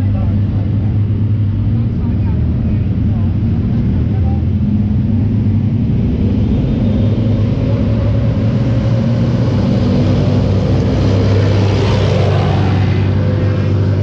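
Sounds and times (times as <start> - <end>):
tank diesel engine drone: 0.0 - 14.0.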